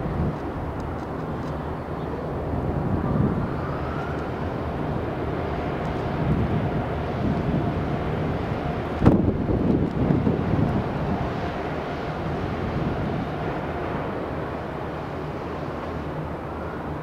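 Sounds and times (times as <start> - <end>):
wind noise on microphone: 0.0 - 1.6, 2.3 - 15.6
jet engine rumble: 0.0 - 17.0.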